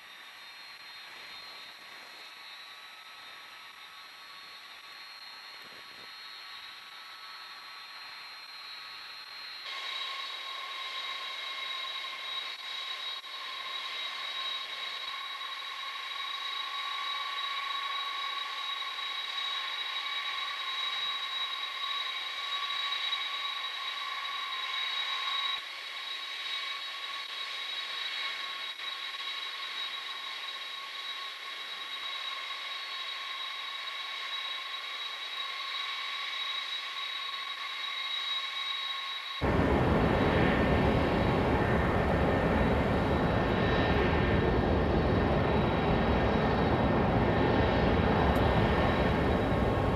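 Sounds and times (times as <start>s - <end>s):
jet engines idling whine: 0.0s - 49.9s.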